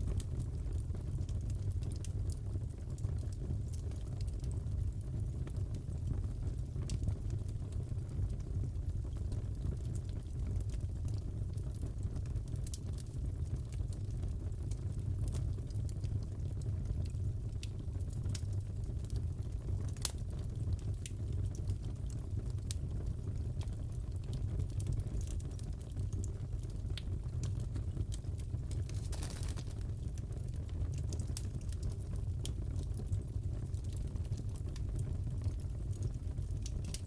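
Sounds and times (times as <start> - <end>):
fire popping and snapping: 0.0 - 37.0
fire roaring in fireplace: 0.0 - 37.0.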